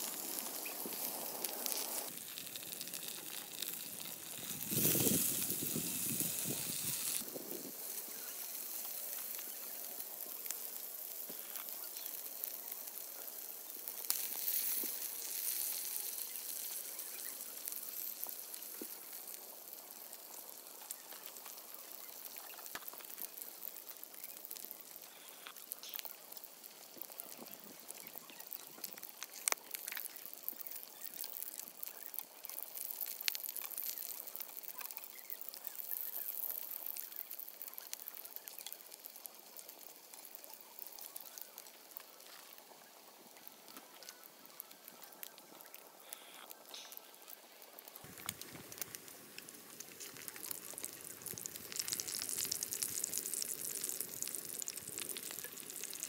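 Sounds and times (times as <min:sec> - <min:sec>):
meat sizzling in a skillet: 0:00.0 - 0:56.0.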